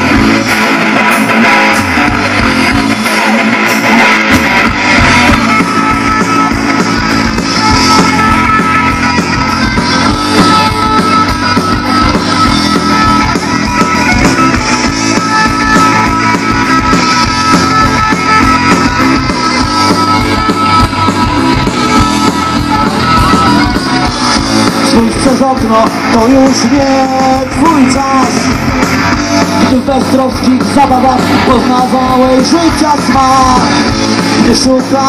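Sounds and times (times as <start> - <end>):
electric guitars: 0.0 - 35.0
rock band playing: 0.0 - 35.0.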